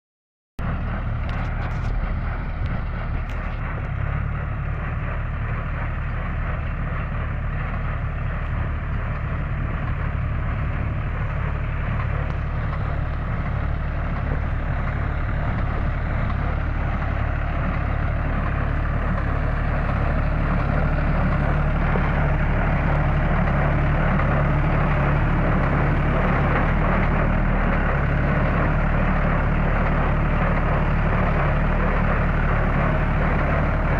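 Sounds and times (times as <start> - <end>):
engine running: 0.6 - 33.9
straw baler working: 0.6 - 33.9.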